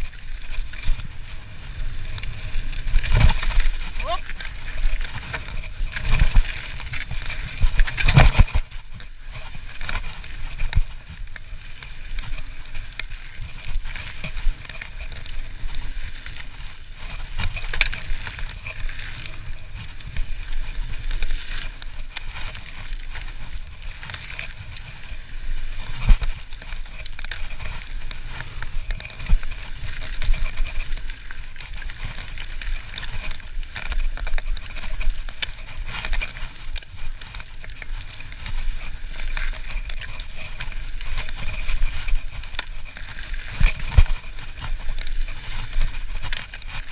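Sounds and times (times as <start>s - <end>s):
bike knocking and rattling: 0.0s - 46.9s
bike tyres crunching on gravel: 0.0s - 46.9s.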